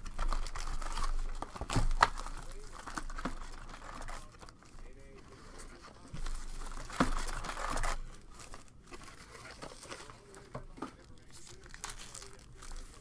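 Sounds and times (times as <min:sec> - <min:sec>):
card pack wrappers crinkling: 0:00.0 - 0:13.0.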